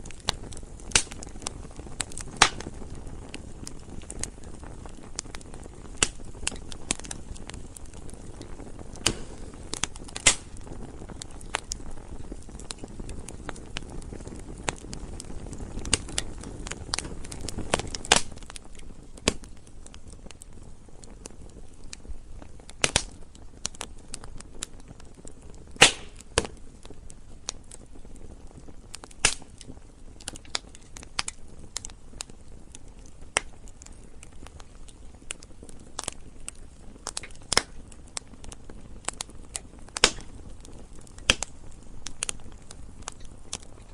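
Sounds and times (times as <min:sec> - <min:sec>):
burning wood snapping and popping: 0:00.0 - 0:43.9
low rush of flame: 0:00.0 - 0:43.9.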